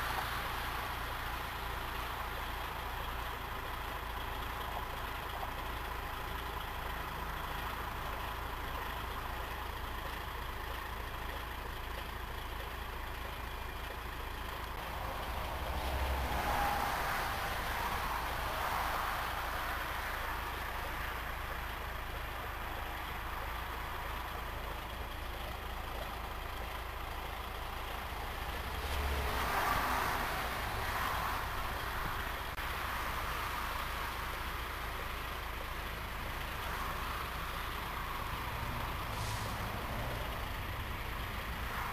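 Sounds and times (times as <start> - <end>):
highway traffic noise: 0.0 - 41.9.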